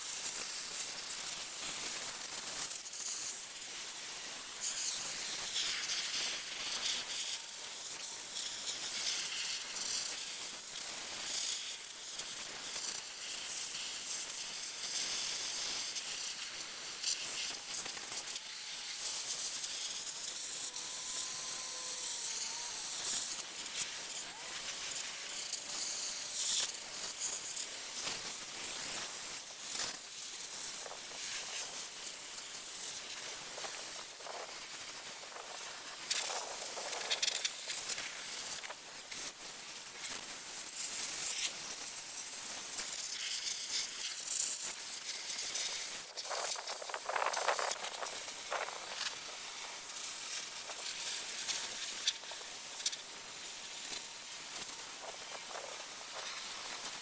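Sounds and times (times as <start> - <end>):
sandblaster nozzle hissing: 0.0 - 57.0.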